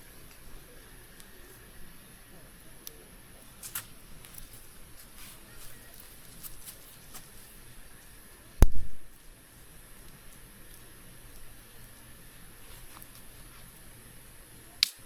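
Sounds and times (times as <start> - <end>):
campfire wood crackling: 0.0 - 15.0.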